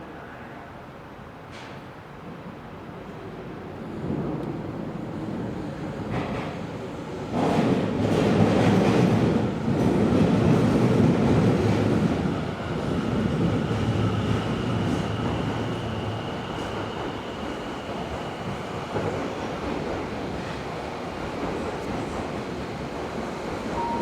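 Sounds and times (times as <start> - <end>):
subway train rumble: 0.0 - 24.0.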